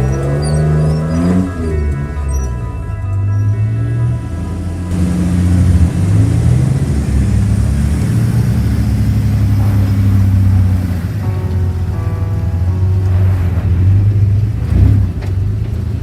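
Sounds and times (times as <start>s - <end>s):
music track: 0.0s - 15.2s
truck engine revving: 0.0s - 16.0s.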